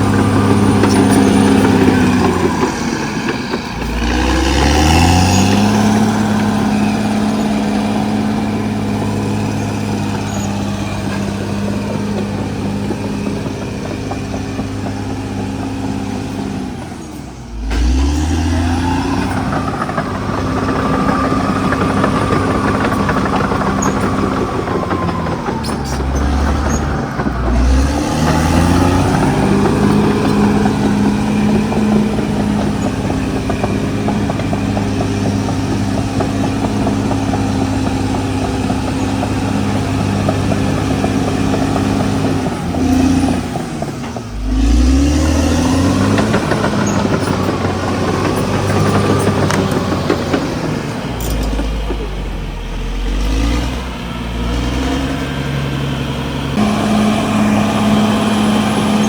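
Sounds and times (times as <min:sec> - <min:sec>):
rattling clatter: 0:00.0 - 0:53.7
bulldozer diesel engine revving: 0:00.0 - 0:59.0.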